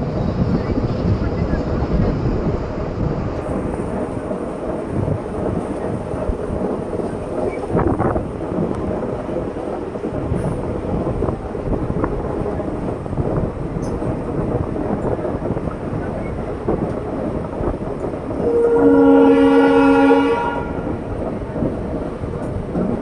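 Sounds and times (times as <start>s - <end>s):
passenger train rumbling: 0.0s - 23.0s
train clatter: 0.0s - 23.0s.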